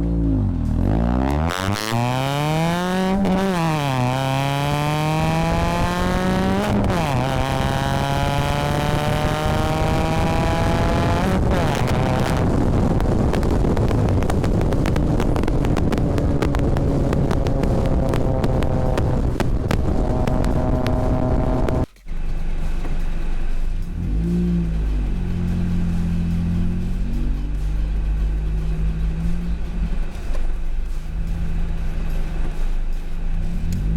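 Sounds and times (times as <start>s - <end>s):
car engine accelerating hard: 0.0s - 33.9s.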